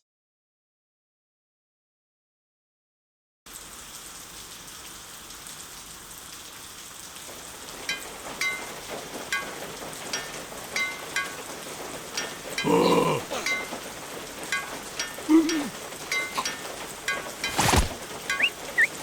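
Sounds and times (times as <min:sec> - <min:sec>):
hiss of falling rain: 0:03.5 - 0:19.0.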